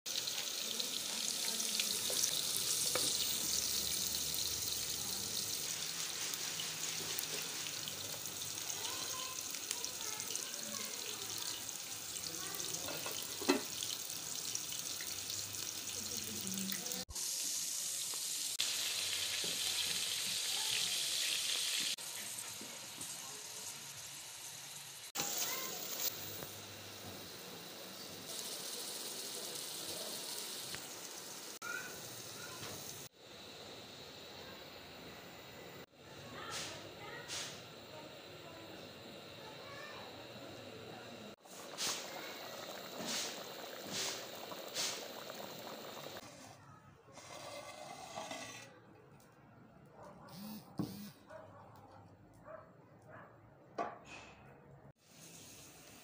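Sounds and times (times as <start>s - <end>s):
food sizzling in oil: 0.1s - 46.4s, 47.1s - 48.6s, 55.0s - 56.0s.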